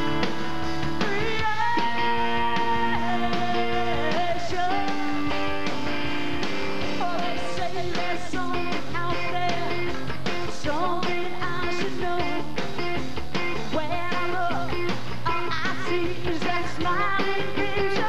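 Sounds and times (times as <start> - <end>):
drums: 0.0 - 18.0
electric guitar: 0.0 - 18.0.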